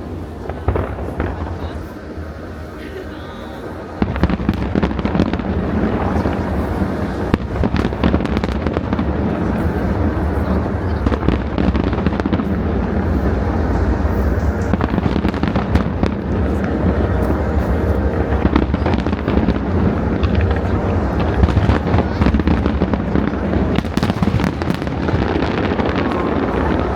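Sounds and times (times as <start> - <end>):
fireworks cracking and popping: 4.0 - 26.9.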